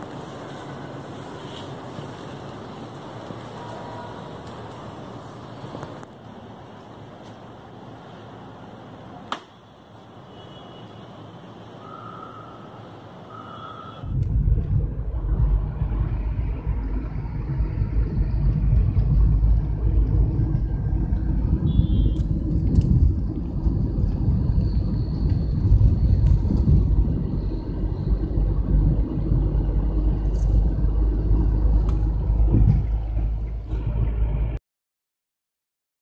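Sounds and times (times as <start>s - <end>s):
road and engine rumble in car: 0.0s - 9.4s, 11.4s - 34.6s.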